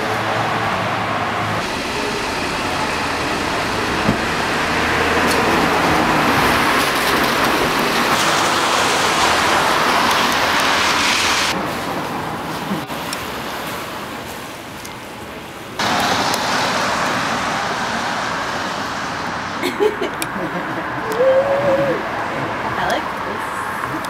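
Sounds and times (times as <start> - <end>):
street traffic rushing: 0.0 - 24.0.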